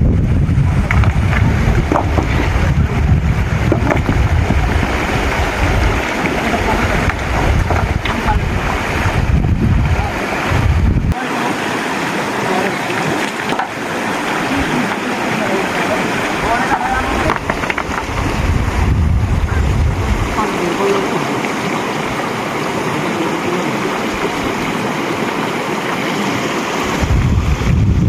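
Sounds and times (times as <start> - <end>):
wind buffeting microphone: 0.0 - 11.2, 12.1 - 28.0
rushing stream water: 0.0 - 28.0.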